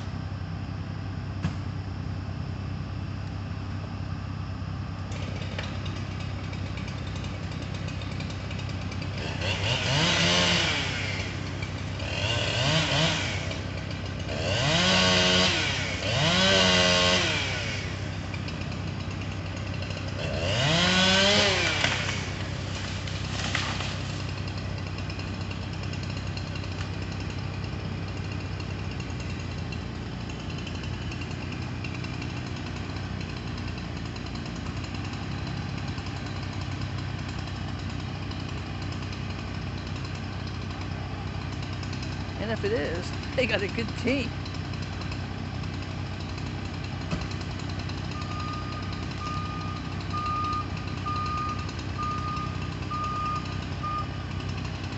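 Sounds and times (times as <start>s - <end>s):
truck engine idling: 0.0s - 16.4s, 17.3s - 54.9s
chainsaw revving: 5.1s - 54.9s.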